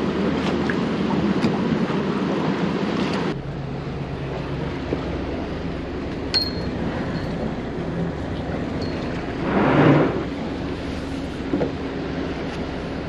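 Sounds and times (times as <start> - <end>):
boat engine hum: 0.0 - 13.0
water rushing through lock gates: 0.0 - 13.0.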